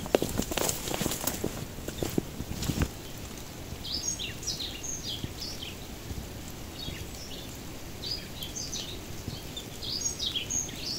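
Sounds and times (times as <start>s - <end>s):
low outdoor noise: 0.0s - 10.9s
small birds chirping: 0.0s - 10.9s.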